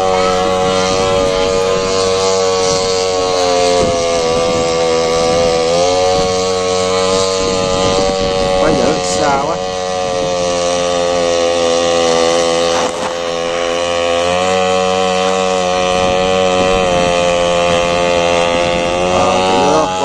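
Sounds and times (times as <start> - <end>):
small boat engine at high revs: 0.0 - 20.0.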